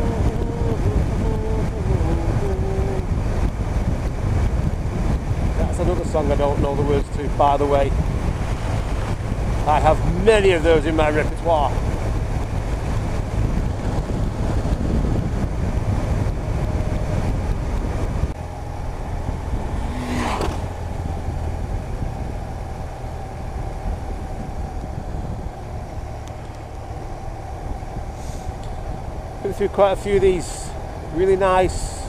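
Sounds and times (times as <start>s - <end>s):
motorcycle engine rumble: 0.0s - 32.0s
wind noise: 0.0s - 32.0s.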